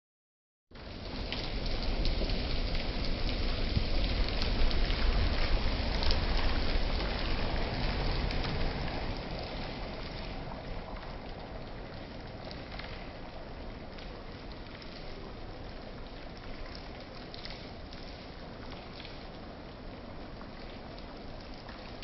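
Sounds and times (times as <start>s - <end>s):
rain on concrete and puddles: 0.7s - 22.0s.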